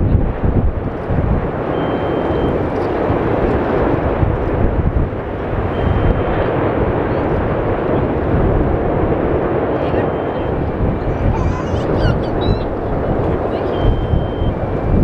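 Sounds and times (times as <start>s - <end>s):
volcano deep roar and rumble: 0.0s - 15.0s.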